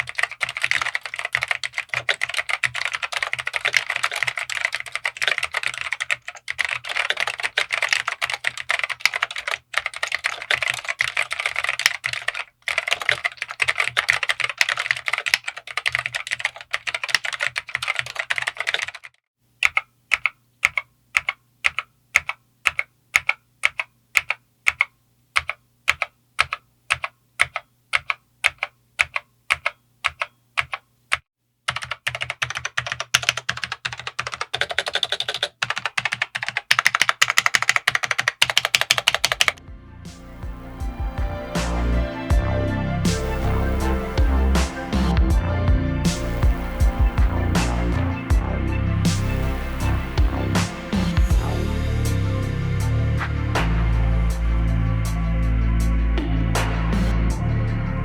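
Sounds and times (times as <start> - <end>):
keyboard typing: 0.0 - 39.6, 40.4 - 51.3.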